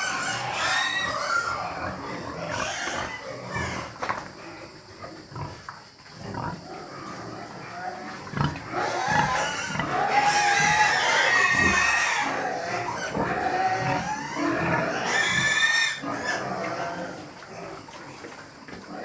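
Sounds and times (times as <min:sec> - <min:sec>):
pigs squealing: 0:00.0 - 0:18.2
pigs grunting: 0:00.0 - 0:19.0.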